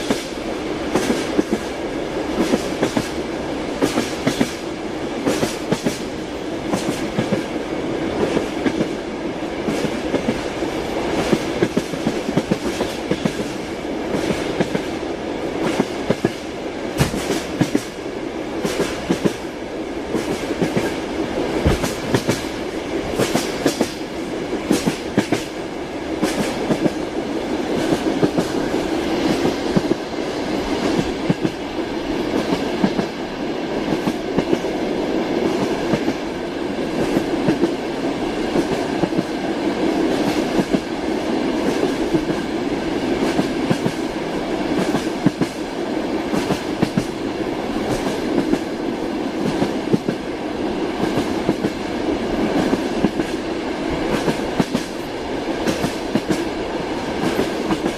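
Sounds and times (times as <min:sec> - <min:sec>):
train wheels clacking on rails: 0:00.0 - 0:57.9.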